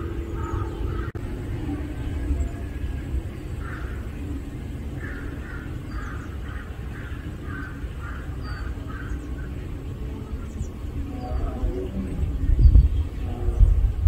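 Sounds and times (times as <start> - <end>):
bird harsh calls: 0.0 - 14.0
low outdoor rumble: 0.0 - 14.0.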